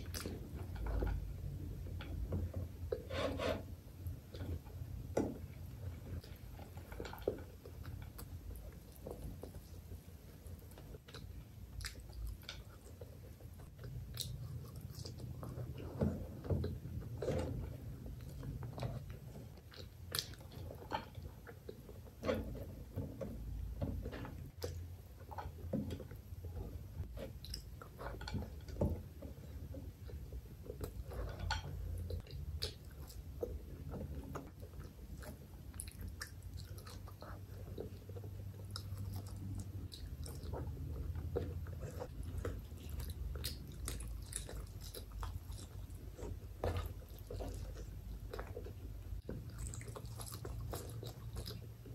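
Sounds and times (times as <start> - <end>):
person chewing food: 0.0 - 3.4, 4.1 - 51.9.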